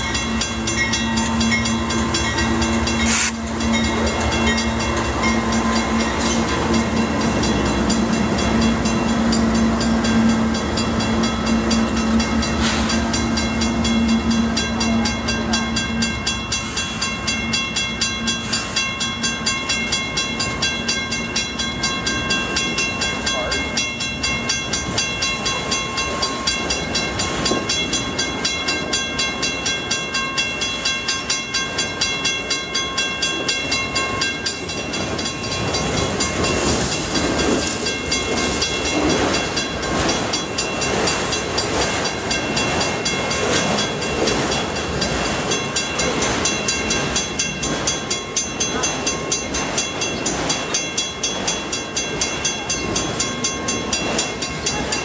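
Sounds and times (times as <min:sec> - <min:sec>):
steady high ringing: 0:00.0 - 0:55.0.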